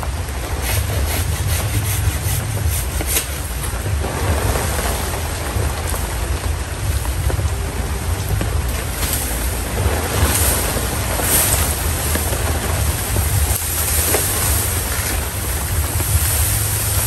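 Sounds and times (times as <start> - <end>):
heavy rain pouring: 0.0 - 17.0
wind rumble on microphone: 0.0 - 17.0.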